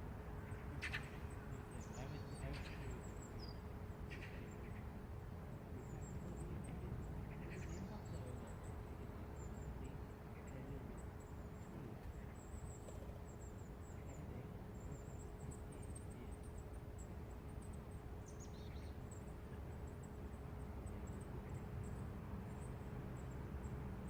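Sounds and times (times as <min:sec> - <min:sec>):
distant traffic rumble: 0:00.0 - 0:24.0
faint steady hum: 0:00.0 - 0:24.0
small birds chirping: 0:00.1 - 0:24.0.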